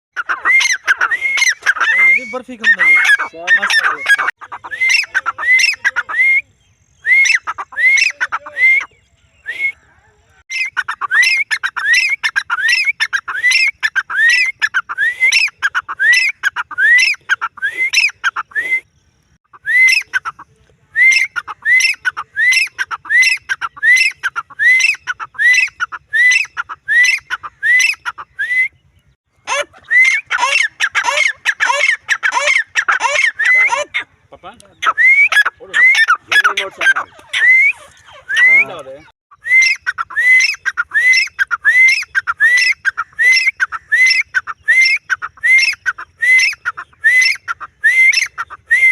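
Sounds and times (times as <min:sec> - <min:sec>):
francolin calling: 0:00.2 - 0:48.9.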